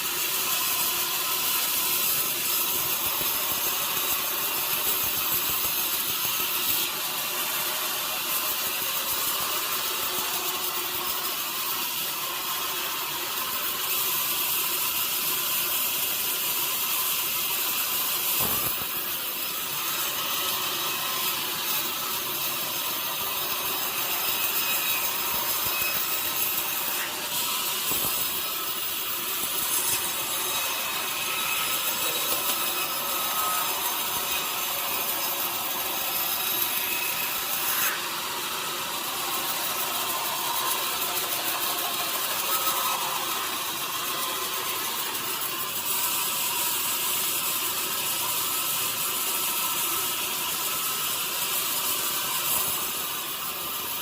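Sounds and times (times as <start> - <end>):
saw cutting through log: 0.0 - 54.0.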